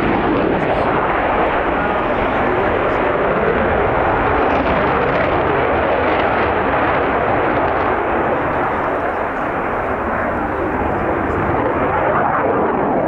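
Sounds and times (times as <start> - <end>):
loud jet engine noise: 0.0 - 13.0.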